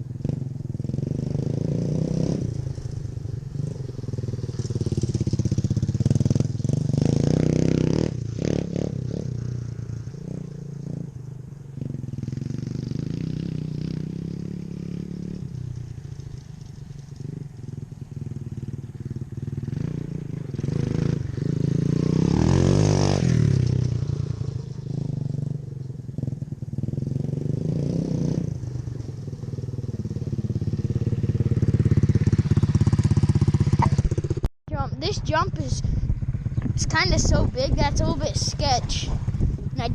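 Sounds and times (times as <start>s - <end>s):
dirt bike engine revving: 0.2s - 11.2s, 11.8s - 25.6s, 26.2s - 39.9s.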